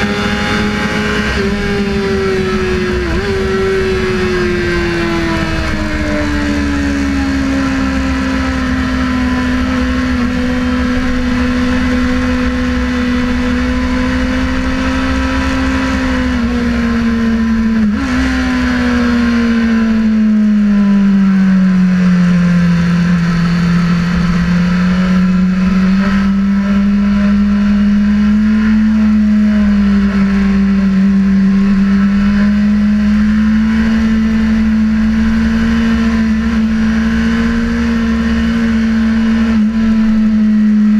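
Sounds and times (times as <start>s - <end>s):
motorcycle engine running hard: 0.0s - 40.9s.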